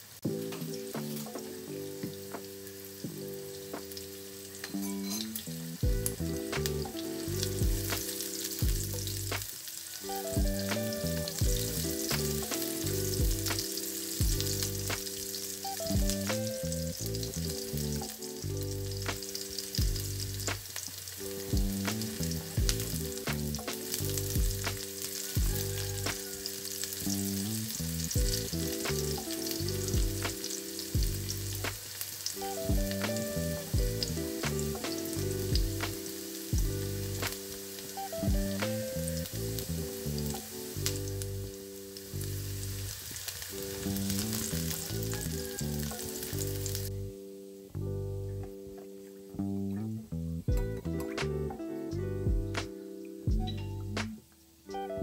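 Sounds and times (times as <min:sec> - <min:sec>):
shallots sizzling in hot oil: 0:00.0 - 0:47.7.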